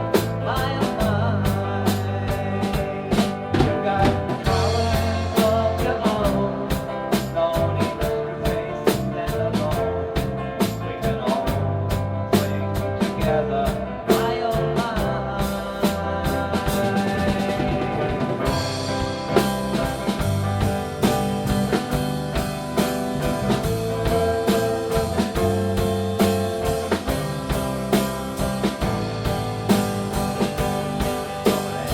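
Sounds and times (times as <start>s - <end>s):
drum beat with cymbal strokes: 0.0s - 31.9s
rock band playing: 0.0s - 31.9s.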